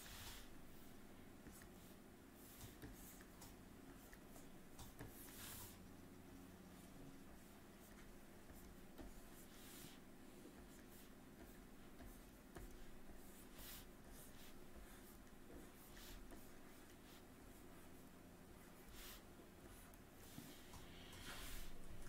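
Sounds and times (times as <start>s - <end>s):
stylus scratching on tablet: 0.0s - 20.6s
low room hum: 0.0s - 22.0s.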